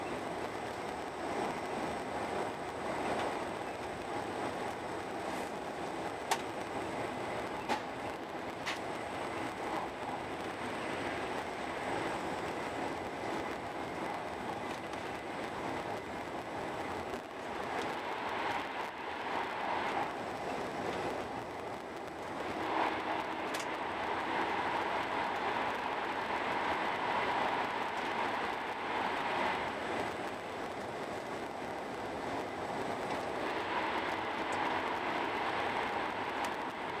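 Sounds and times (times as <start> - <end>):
train running noise inside carriage: 0.0 - 37.0.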